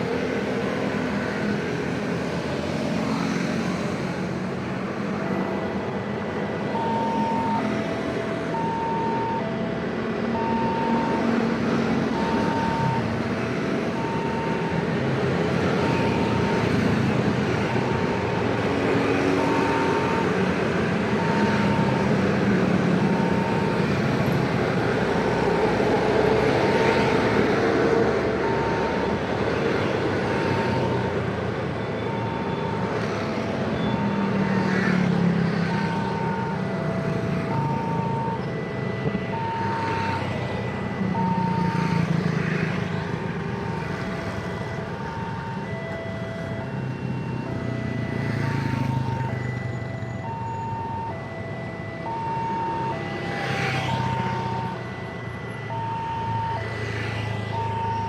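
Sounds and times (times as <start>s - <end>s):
road traffic noise: 0.0s - 58.0s
two-tone crossing alarm: 0.0s - 58.0s.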